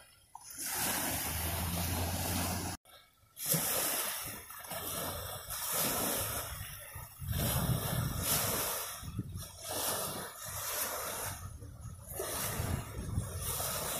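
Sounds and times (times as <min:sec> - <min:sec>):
ocean waves washing in: 0:00.0 - 0:13.9.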